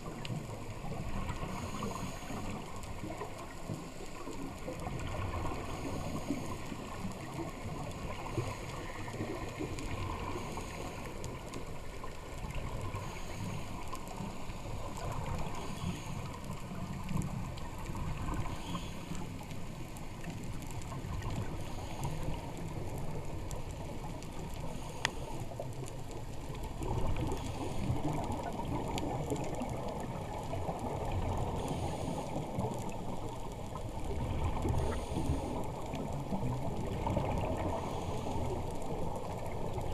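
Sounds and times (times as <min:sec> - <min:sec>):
faint clicks: 0:00.0 - 0:39.9
underwater water rush: 0:00.0 - 0:39.9.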